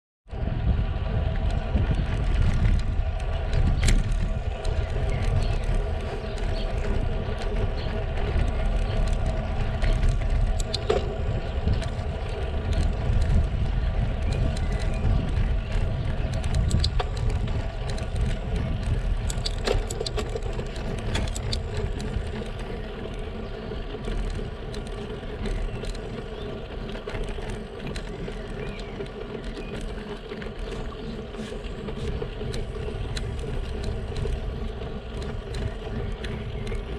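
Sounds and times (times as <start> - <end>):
tyres rumbling on rough asphalt: 0.3 - 36.9
bike clicks and knocks: 1.1 - 36.9.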